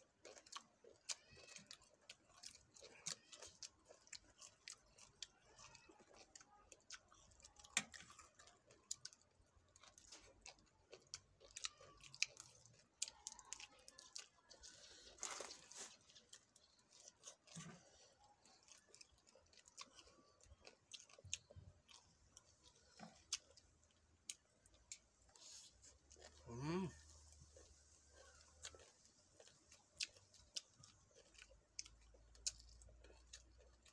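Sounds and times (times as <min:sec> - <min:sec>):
chewing crunches: 0:00.0 - 0:33.9.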